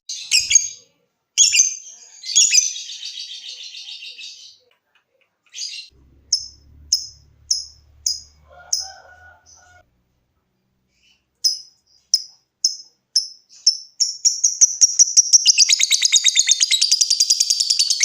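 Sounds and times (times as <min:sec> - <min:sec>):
lovebird chirping and chattering: 0:00.1 - 0:00.8, 0:01.4 - 0:04.6, 0:05.5 - 0:09.8, 0:10.9 - 0:18.0.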